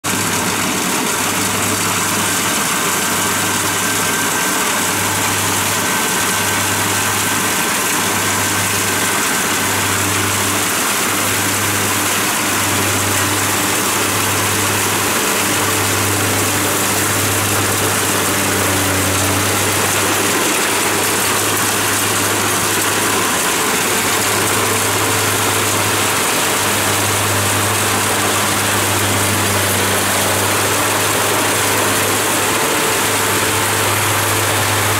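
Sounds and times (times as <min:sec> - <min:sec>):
combine harvester engine running: 0:00.0 - 0:34.9.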